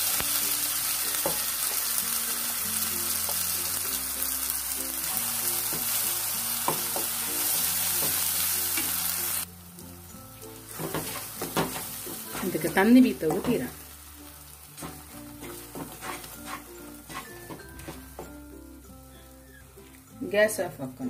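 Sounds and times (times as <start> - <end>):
paste sizzling in hot oil: 0.0 - 20.0
background music: 0.0 - 21.0.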